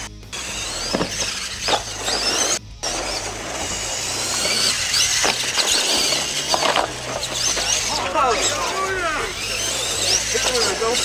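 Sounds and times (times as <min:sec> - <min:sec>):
steady background noise: 0:00.0 - 0:11.0
toy truck motor whining: 0:00.0 - 0:11.0.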